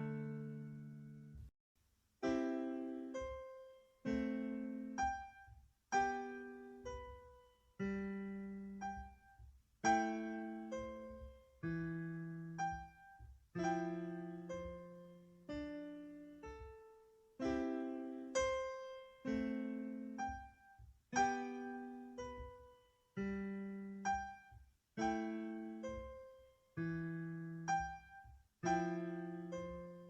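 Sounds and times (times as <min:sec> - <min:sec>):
slow gentle piano notes: 0:00.0 - 0:01.5, 0:02.2 - 0:30.0.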